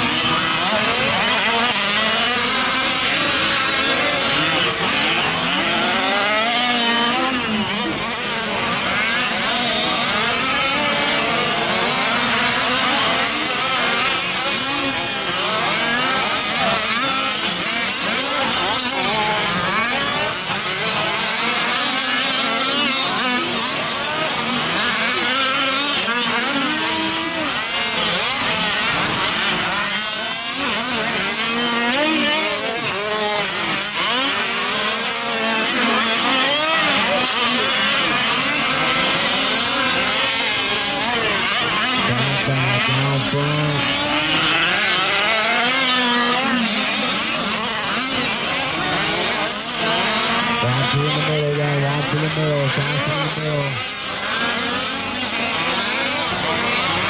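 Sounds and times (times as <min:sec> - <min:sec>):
rc truck engines racing: 0:00.0 - 0:57.0.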